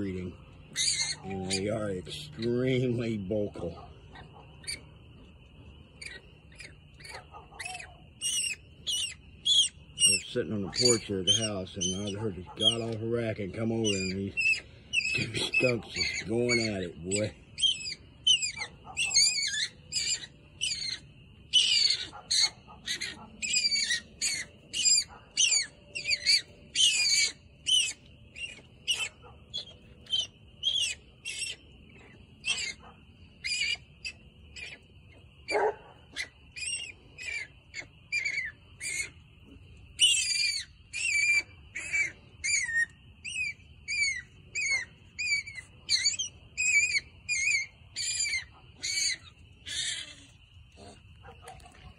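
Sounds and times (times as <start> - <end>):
skunks squealing: 0.0 - 51.9.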